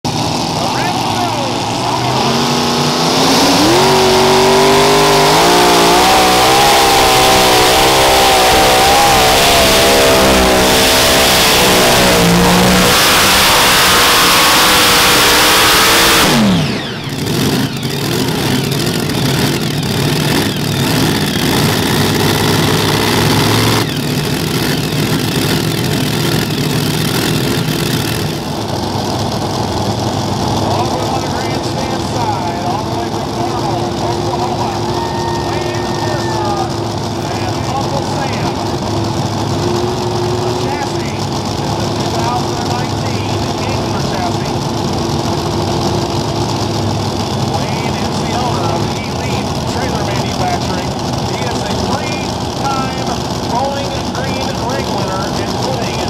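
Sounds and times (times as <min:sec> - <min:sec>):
tractor engines revving: 0:00.0 - 0:56.0.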